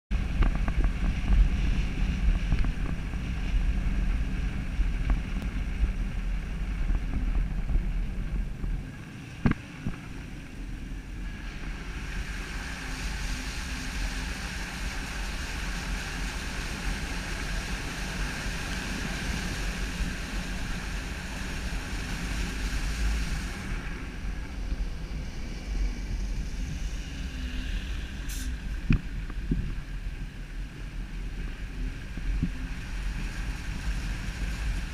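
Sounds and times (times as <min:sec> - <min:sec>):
low road rumble: 0:00.0 - 0:34.9
wind buffeting microphone: 0:00.1 - 0:34.9.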